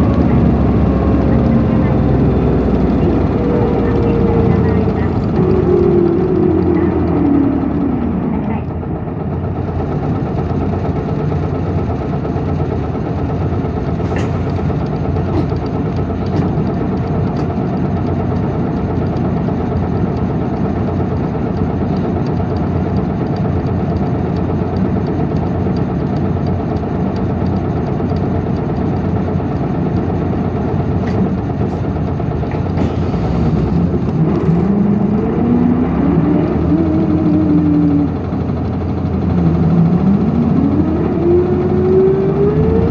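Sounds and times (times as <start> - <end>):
bus engine and road drone: 0.0 - 42.9
whining engine note: 0.0 - 42.9.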